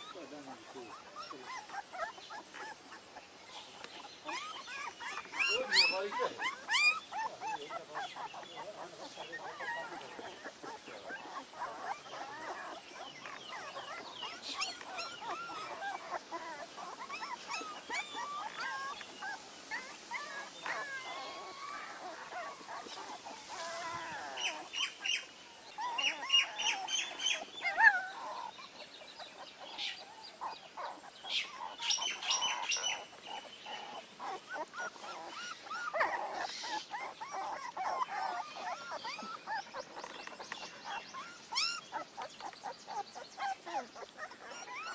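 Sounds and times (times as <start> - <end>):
bird chirps: 0.0 - 44.9
puppies whimpering and squeaking: 0.0 - 44.9.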